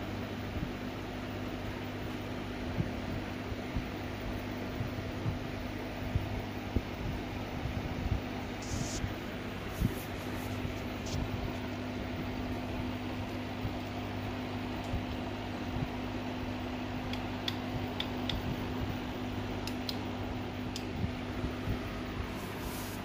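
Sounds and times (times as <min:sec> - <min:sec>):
aquarium air pump humming: 0:00.0 - 0:23.0.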